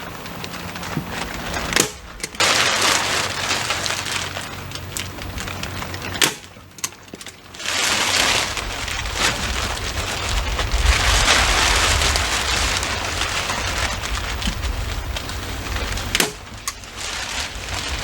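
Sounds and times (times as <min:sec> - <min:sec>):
plastic sheet rustling and crinkling: 0:00.0 - 0:18.0.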